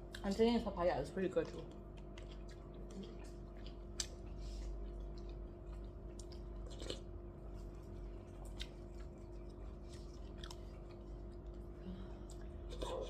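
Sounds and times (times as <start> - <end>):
low electrical hum: 0.0 - 13.0
person chewing: 1.8 - 13.0.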